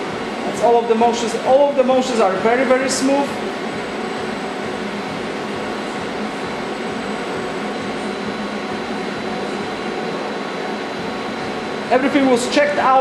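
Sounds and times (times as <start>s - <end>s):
fan-like machinery whir: 0.0s - 13.0s.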